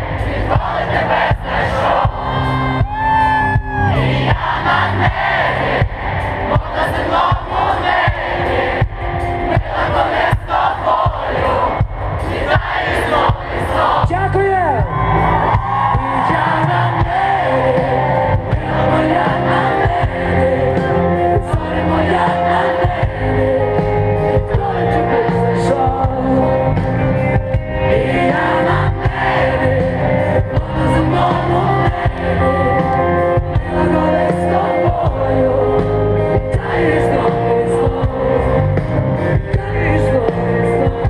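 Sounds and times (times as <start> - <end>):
live rock band with singing: 0.0 - 41.0.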